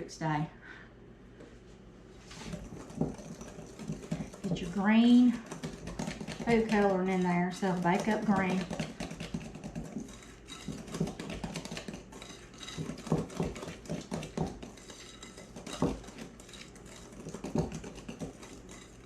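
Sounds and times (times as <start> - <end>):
utensil stirring batter in bowl: 2.1 - 19.0.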